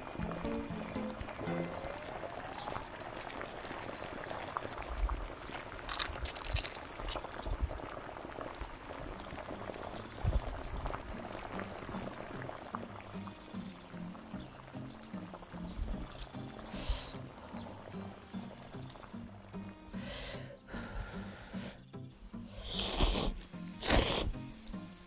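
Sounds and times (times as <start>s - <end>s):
broth boiling and bubbling: 0.0s - 25.0s.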